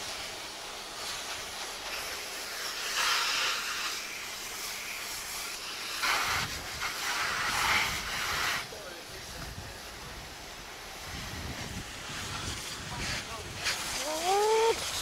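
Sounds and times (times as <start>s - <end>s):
high-pressure spray hissing: 0.0s - 15.0s
steady background hiss: 0.0s - 15.0s.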